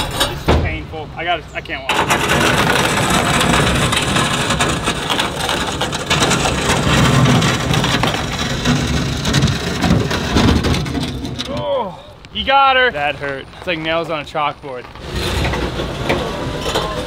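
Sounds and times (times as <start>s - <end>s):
metal trailer scraping on asphalt: 0.0s - 11.6s, 12.7s - 17.0s.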